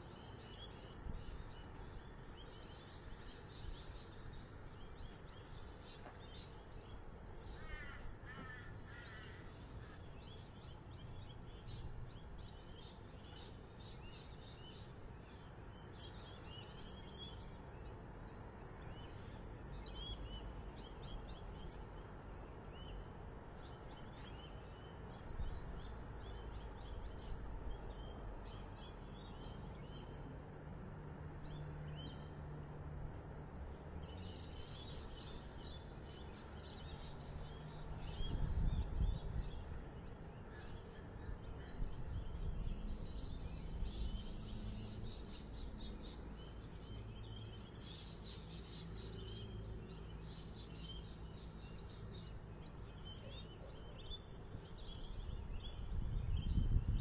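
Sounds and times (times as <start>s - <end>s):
small birds chirping: 0.0s - 30.6s, 33.7s - 57.0s
high insect drone: 0.0s - 57.0s.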